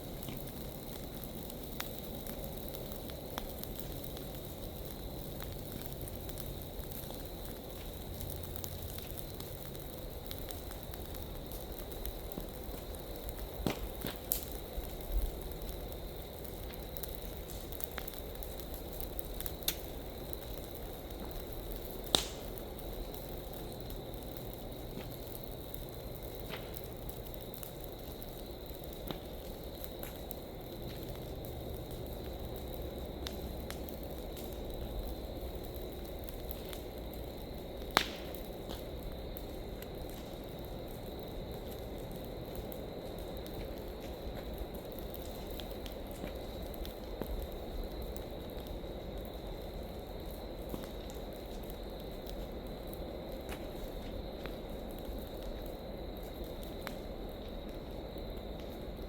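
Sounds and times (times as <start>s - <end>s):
dry leaves burning crackle: 0.0s - 59.0s
sharp fire pops: 0.0s - 59.0s.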